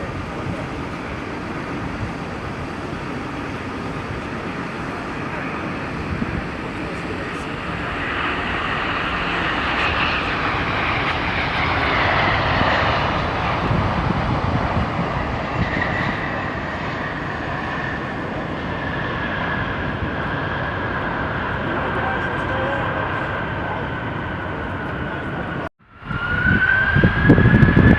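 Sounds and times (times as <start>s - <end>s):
jet airliner engines passing: 0.0s - 27.9s.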